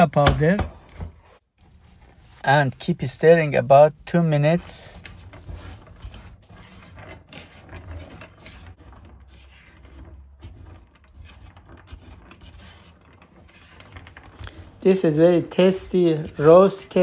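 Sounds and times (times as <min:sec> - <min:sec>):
spatula stirring: 0:01.4 - 0:17.0.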